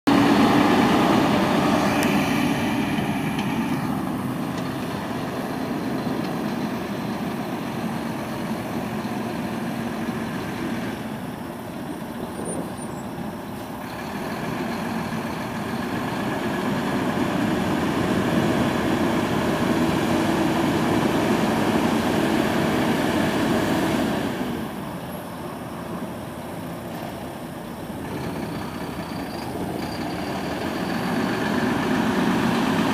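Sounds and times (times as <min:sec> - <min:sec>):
diesel truck engine running: 0:00.0 - 0:32.9.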